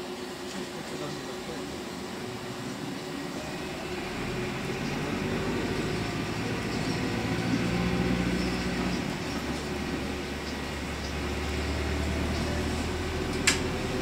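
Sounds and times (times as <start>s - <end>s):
bus drivetrain droning: 0.0s - 14.0s.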